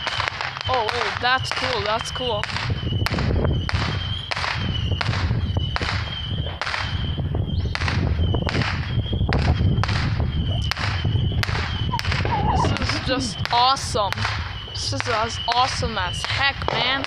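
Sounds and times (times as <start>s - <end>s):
fireworks cracking and banging: 0.0s - 17.0s
low rumble: 0.0s - 17.0s.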